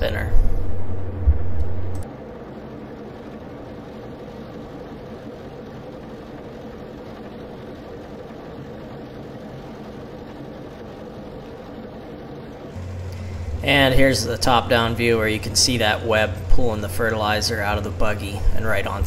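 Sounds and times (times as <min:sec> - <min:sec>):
tractor engine drone: 0:00.0 - 0:19.0.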